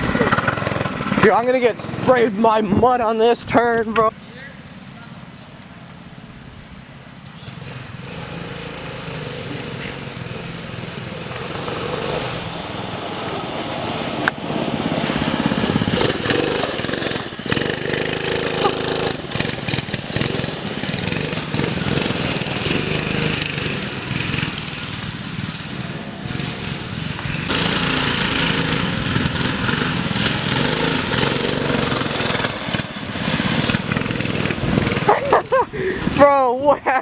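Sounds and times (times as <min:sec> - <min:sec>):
minibike engine revving: 0:00.0 - 0:36.6.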